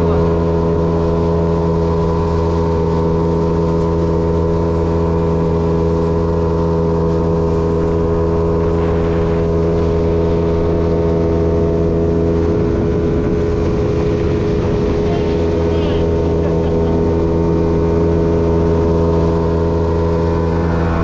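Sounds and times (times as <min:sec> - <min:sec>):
outboard motor drone: 0:00.0 - 0:21.0.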